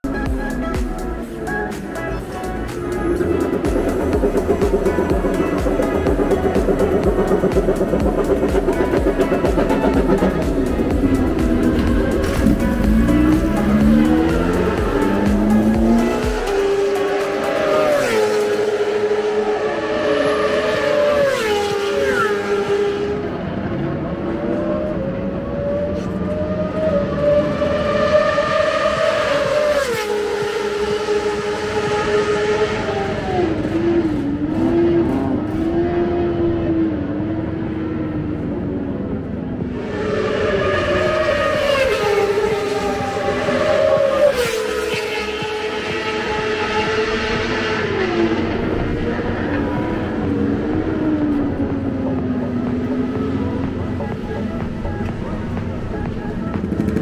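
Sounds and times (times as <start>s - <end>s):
background music: 0.0s - 57.0s
racing motorcycle engines: 0.0s - 57.0s.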